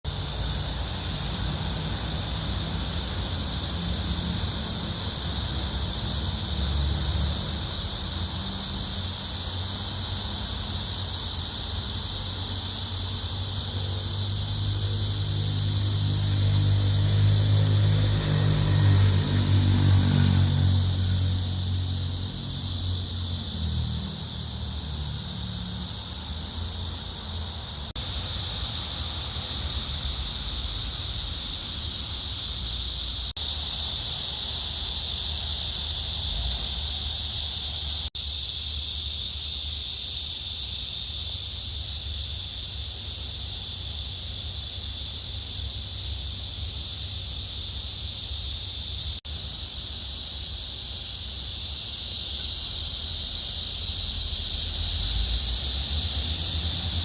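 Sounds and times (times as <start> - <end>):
continuous high hiss: 0.1 - 57.0.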